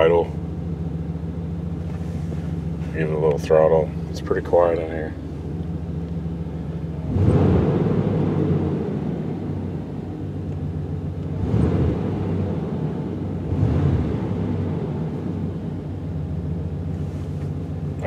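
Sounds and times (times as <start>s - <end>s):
truck engine idling with throttle blips: 0.0s - 18.0s.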